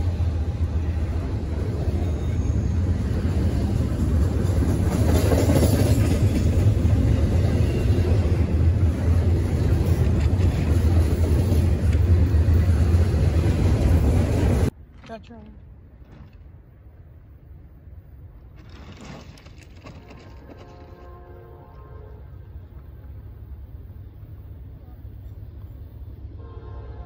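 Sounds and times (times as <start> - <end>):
freight train rolling past: 0.0 - 14.9, 15.7 - 27.0.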